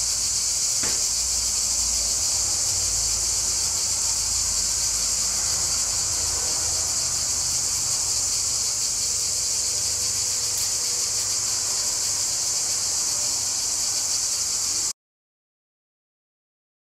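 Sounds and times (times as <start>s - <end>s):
cicadas buzzing: 0.0s - 14.9s.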